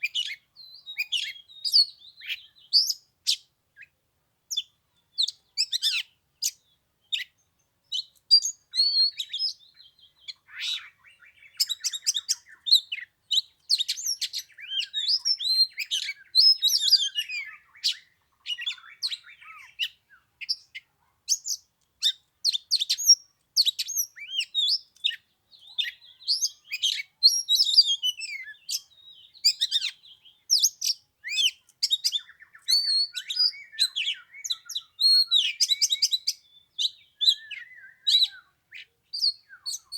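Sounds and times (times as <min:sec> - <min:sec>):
bird singing whistles and trills: 0:00.0 - 0:03.9, 0:04.5 - 0:39.9.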